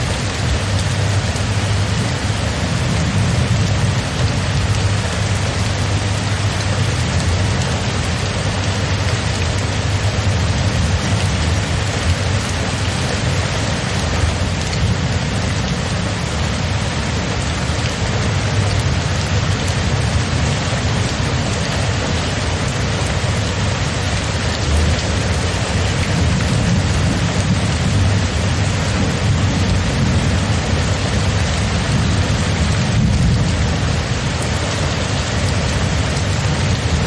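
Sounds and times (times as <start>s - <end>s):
constant low rumble: 0.0s - 37.0s
rain falling: 0.0s - 37.0s.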